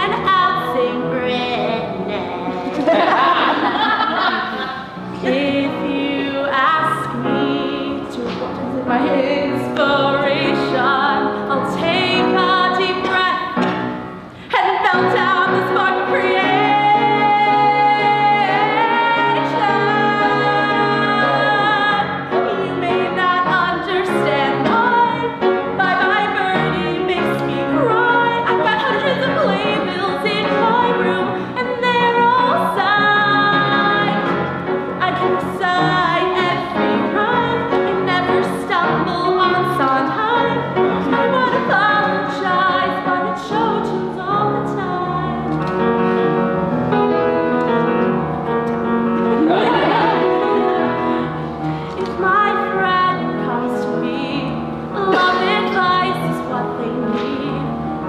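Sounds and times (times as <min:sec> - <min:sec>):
woman singing with vibrato: 0:00.0 - 0:13.8, 0:14.4 - 0:34.4, 0:35.0 - 0:45.4, 0:49.5 - 0:57.8
piano accompaniment: 0:00.0 - 0:58.0.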